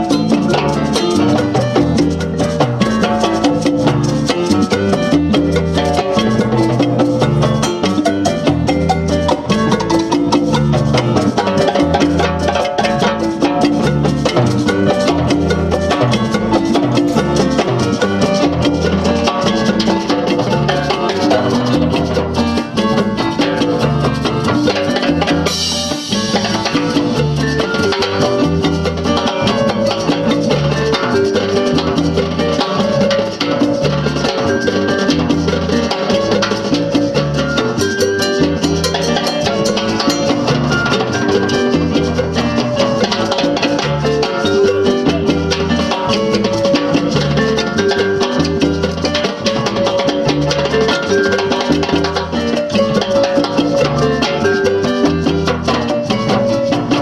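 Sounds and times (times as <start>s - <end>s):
latin jazz band playing: 0.0s - 57.0s
repeating bass notes: 0.0s - 57.0s
timbales and percussion: 0.0s - 57.0s.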